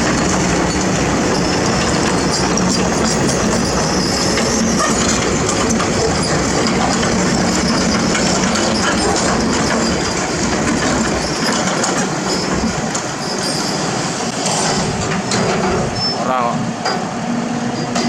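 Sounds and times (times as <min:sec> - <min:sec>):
diesel engine rumbling under load: 0:00.0 - 0:18.0
steel crawler tracks clanking: 0:00.0 - 0:18.0.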